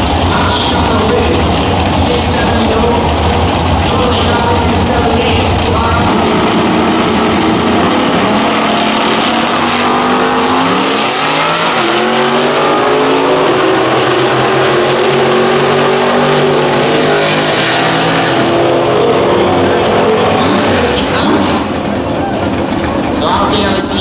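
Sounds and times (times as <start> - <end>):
drag racing car engines revving: 0.0 - 24.0.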